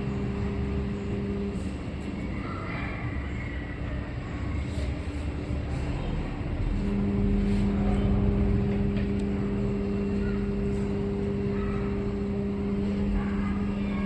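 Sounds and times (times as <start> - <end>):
continuous low rumble: 0.0 - 14.0
steady mechanical hum: 0.0 - 14.0.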